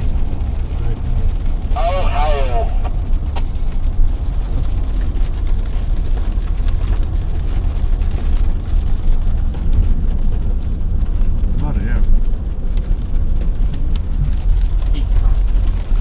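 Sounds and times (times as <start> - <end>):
vehicle road noise: 0.0 - 16.0
wind rumble: 0.0 - 16.0.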